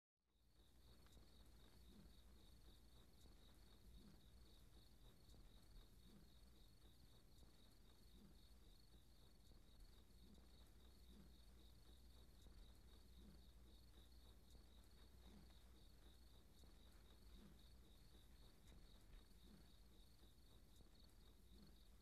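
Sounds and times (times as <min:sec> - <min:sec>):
faint crickets chirping: 0:00.3 - 0:22.0.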